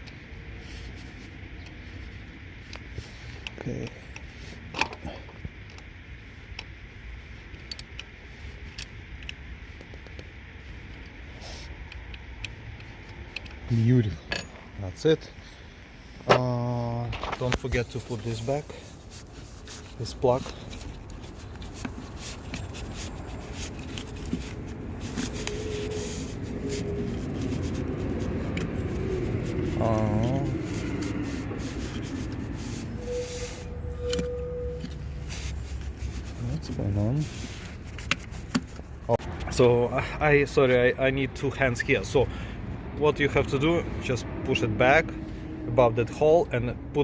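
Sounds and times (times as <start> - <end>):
engine parts clicking and rubbing: 0.0 - 15.3, 16.2 - 47.0
low steady hum: 0.0 - 47.0.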